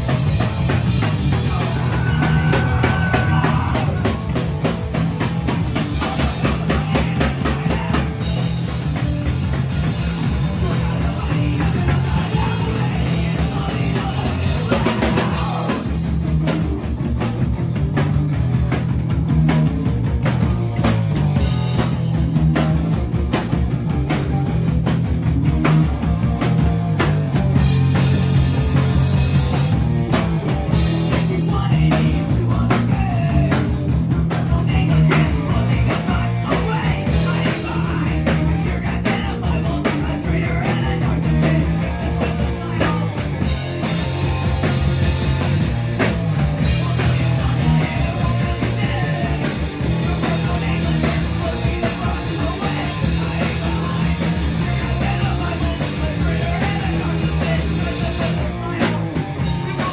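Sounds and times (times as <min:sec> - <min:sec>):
punk band playing live: 0:00.0 - 0:59.9.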